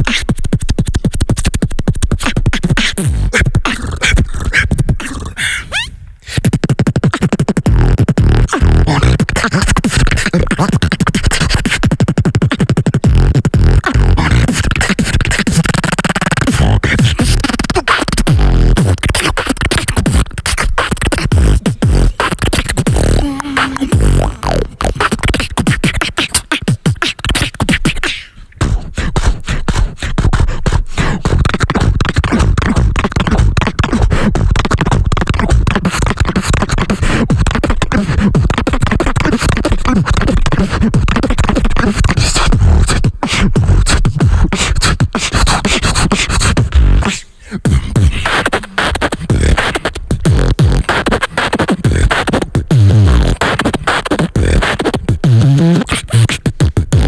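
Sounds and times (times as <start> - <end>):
beatboxing into microphone: 0.0 - 57.0.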